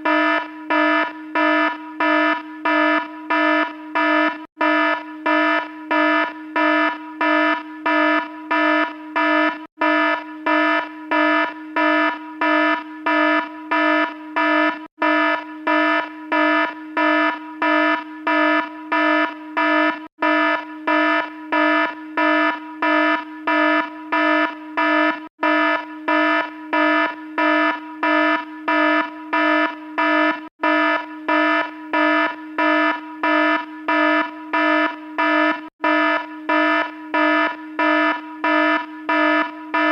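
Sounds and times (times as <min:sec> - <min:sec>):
buzzy electronic alarm beeping: 0:00.0 - 0:39.9.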